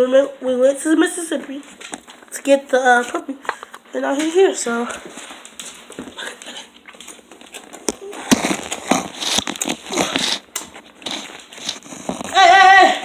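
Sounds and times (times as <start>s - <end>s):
rustling and crinkling handling noise: 0.0s - 13.0s.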